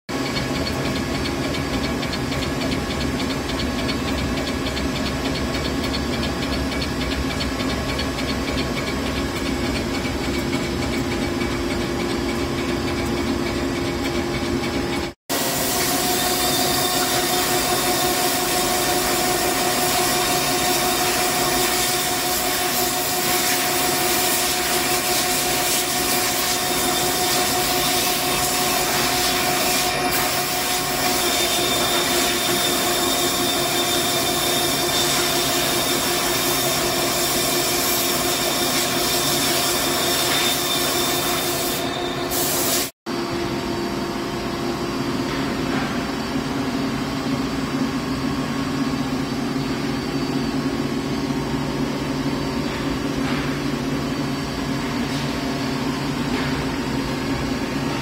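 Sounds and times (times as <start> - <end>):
cnc machine running: 0.1 - 58.0.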